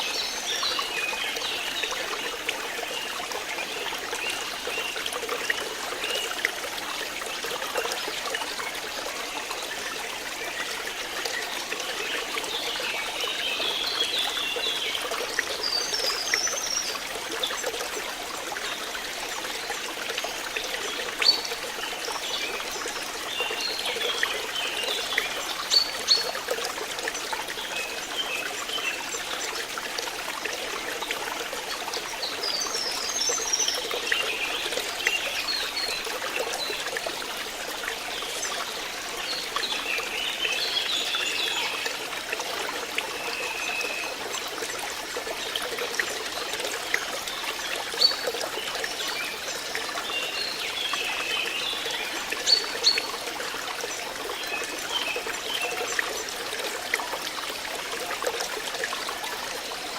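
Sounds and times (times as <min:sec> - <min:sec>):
water trickling in stream: 0:00.0 - 0:59.9.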